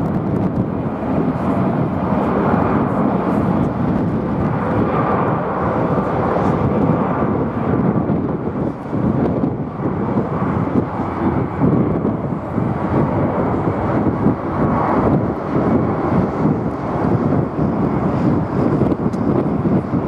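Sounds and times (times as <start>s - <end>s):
jet airliner engine noise: 0.0s - 20.0s
wind buffeting microphone: 0.0s - 20.0s.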